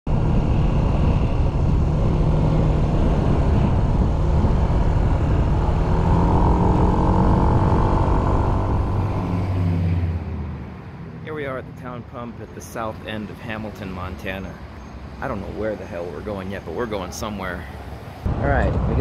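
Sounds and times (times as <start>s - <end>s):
motor vehicle running: 0.1s - 19.0s.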